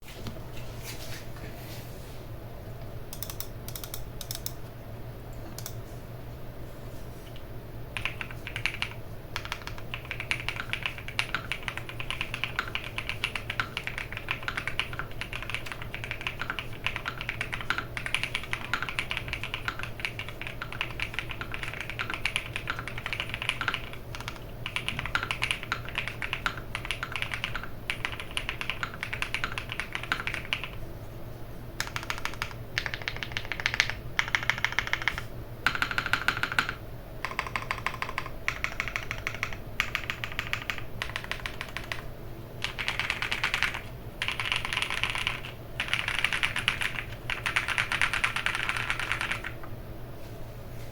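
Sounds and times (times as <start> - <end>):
fast typing on mechanical keyboard: 3.1 - 4.5, 8.0 - 30.8, 31.8 - 49.6.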